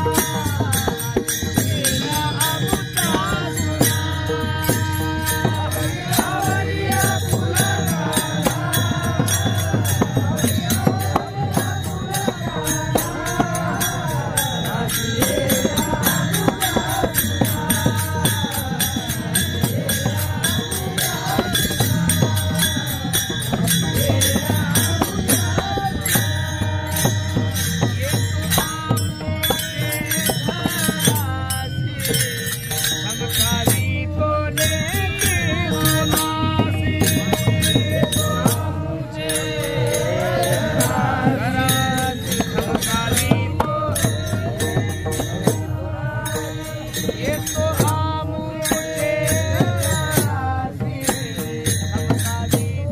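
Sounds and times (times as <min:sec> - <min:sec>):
hand cymbals clashing: 0:00.0 - 0:52.9
men singing devotional song: 0:00.0 - 0:52.9.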